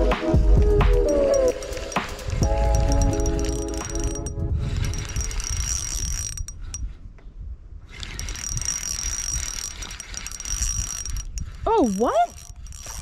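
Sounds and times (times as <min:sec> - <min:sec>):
fishing reel whirring and ticking: 0:00.7 - 0:06.9, 0:07.9 - 0:13.0.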